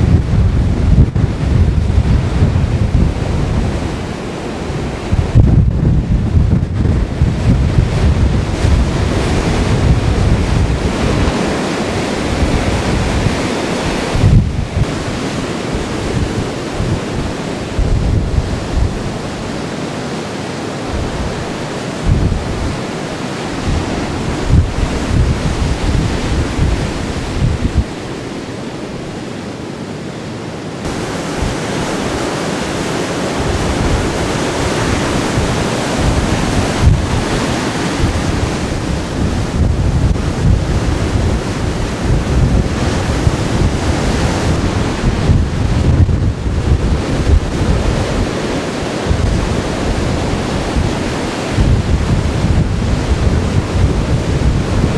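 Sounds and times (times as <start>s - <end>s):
heavy surf breaking: 0.0s - 54.9s
wind buffeting microphone: 0.0s - 54.9s.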